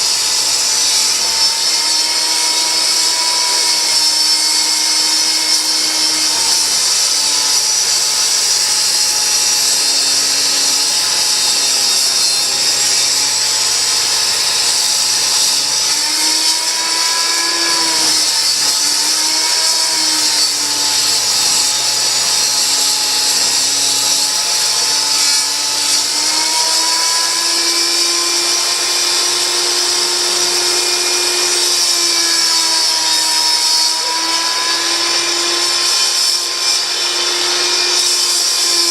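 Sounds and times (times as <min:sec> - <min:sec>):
table saw ripping a board: 0:00.0 - 0:38.9.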